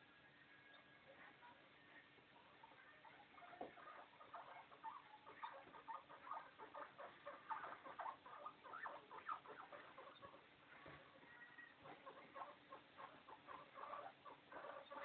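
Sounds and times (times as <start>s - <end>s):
guinea pig squeaking: 0.6s - 15.0s.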